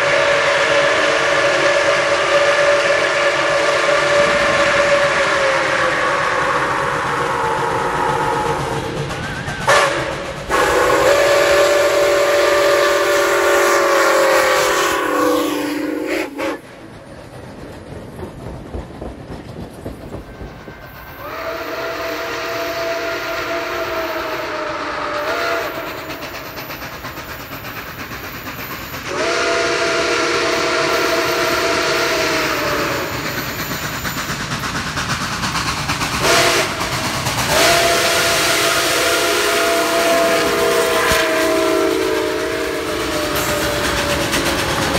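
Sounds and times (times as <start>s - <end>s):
steam locomotive whistle blasts: 0.0s - 16.7s, 20.5s - 26.4s, 28.8s - 34.3s, 36.2s - 44.9s
steam hissing: 0.0s - 44.9s
train running noise: 0.0s - 44.9s.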